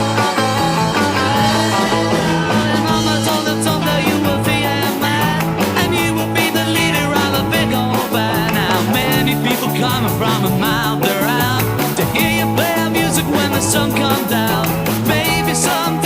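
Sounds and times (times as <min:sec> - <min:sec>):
electric guitar lead: 0:00.0 - 0:16.0
stepping bass line: 0:00.0 - 0:16.0
steady drum beat: 0:01.3 - 0:16.0.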